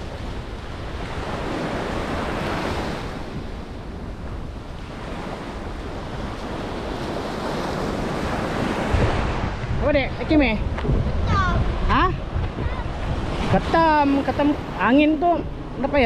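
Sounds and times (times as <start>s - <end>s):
surf breaking on sandy beach: 0.0s - 16.0s
wind buffeting microphone: 0.0s - 16.0s.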